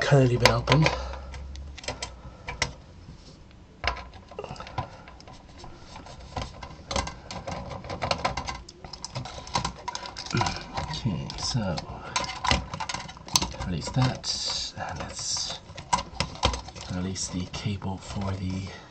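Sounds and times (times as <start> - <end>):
cables and plastic connectors clicking: 0.0 - 2.8, 3.5 - 18.6.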